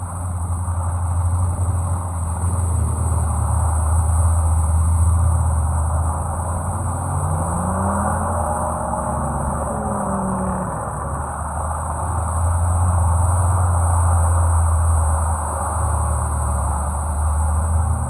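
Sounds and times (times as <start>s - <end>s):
vehicle engine rumbling and revving: 0.0s - 18.0s.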